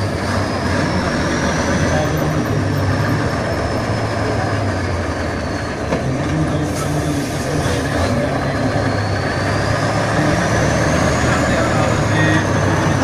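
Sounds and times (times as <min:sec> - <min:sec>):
diesel truck engine under load: 0:00.0 - 0:13.0.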